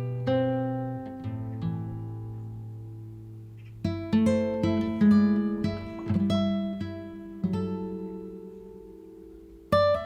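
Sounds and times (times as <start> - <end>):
acoustic guitar plucked notes: 0.0 - 10.0.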